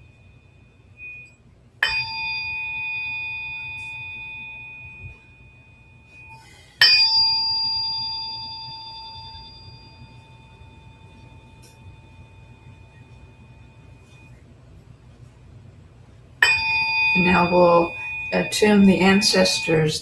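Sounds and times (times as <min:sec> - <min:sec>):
metal singing bowl ringing: 0:00.0 - 0:14.4, 0:16.4 - 0:20.0.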